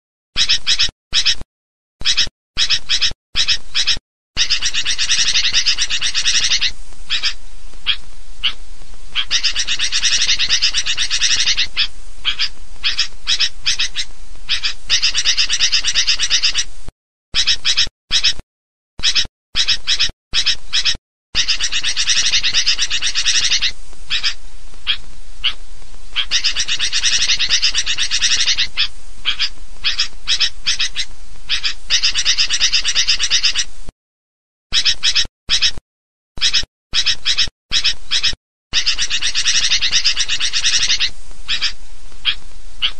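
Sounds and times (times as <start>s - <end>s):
birds chattering in chorus: 0.4s - 1.4s, 2.0s - 16.7s, 17.4s - 18.4s, 19.0s - 33.7s, 34.7s - 35.8s, 36.4s - 42.9s.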